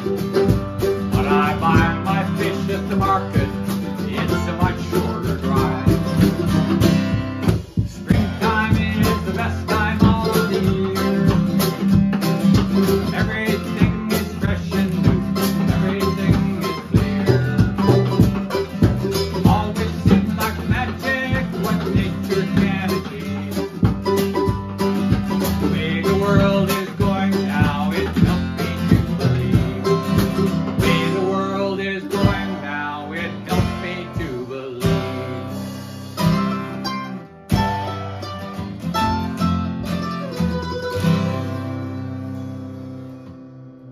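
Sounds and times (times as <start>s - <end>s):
drum kit beat on snare and cymbal: 0.0s - 31.5s, 33.4s - 36.7s, 37.5s - 38.4s
mandolin: 0.0s - 43.9s
strummed acoustic guitar: 0.0s - 43.9s.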